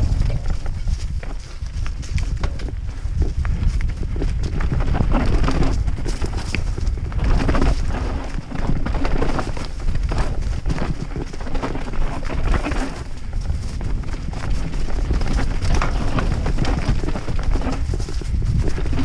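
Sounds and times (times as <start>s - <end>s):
bike rattling over bumps: 0.0s - 19.0s
bike tyres rumbling over stones: 0.0s - 19.0s.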